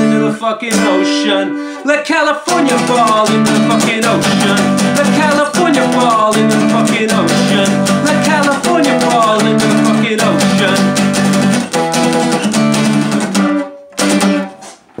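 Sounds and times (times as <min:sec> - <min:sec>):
acoustic guitar strummed fast: 0:00.0 - 0:14.8.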